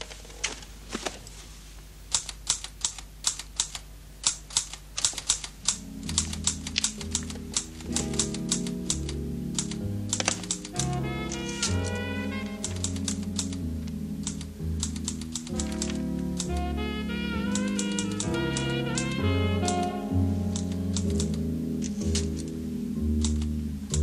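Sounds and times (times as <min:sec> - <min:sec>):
typewriter keys typing: 0:02.1 - 0:13.6, 0:14.2 - 0:16.7, 0:17.4 - 0:22.5, 0:23.2 - 0:24.0.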